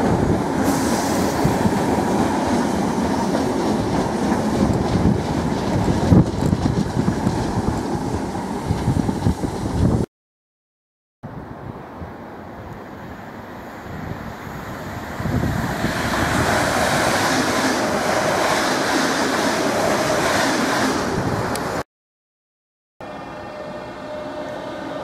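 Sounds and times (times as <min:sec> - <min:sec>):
train passing at speed: 0:00.0 - 0:10.1, 0:11.3 - 0:21.8, 0:23.0 - 0:25.0.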